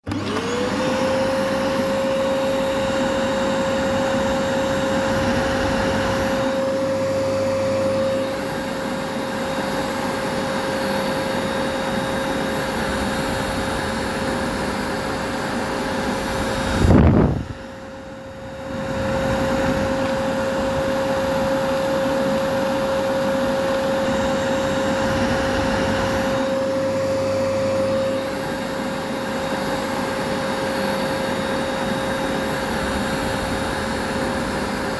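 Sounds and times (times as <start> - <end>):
vacuum cleaner motor running: 0.0 - 34.9.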